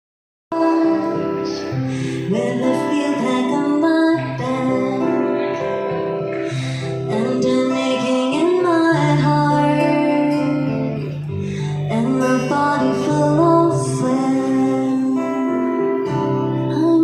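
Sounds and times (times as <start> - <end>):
woman singing a slow song: 0.5 - 17.0.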